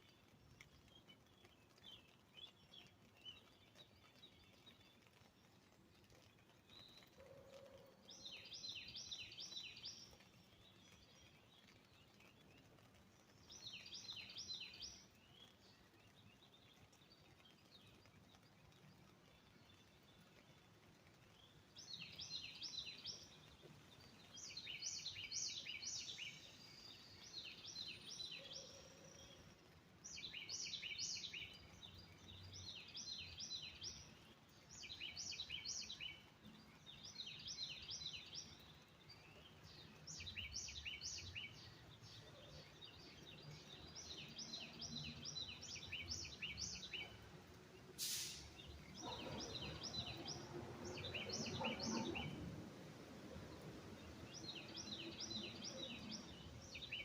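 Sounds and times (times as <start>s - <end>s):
faint background hiss: 0.0s - 57.0s
songbird chirping: 0.0s - 57.0s.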